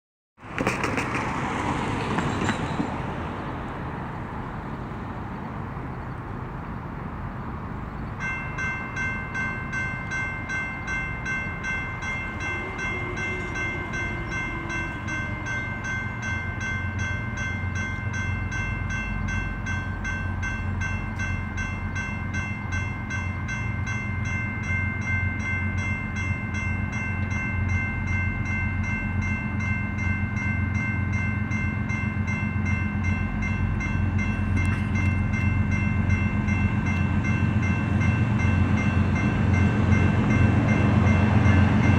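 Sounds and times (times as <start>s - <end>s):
diesel locomotive rumble: 0.4s - 41.9s
crossing warning bell dinging: 0.6s - 3.2s, 8.0s - 41.9s.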